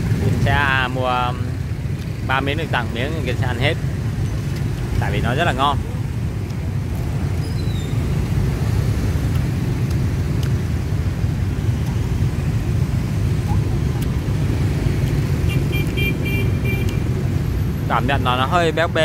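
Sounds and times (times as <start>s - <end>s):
motorbike and scooter traffic rumbling: 0.0s - 19.0s.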